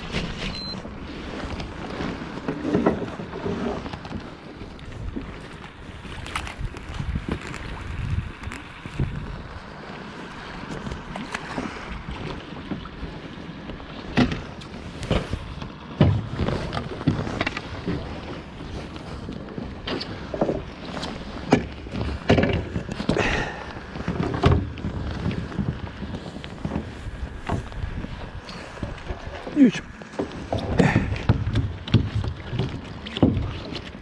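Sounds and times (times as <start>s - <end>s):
wind buffeting microphone: 3.0s - 34.0s.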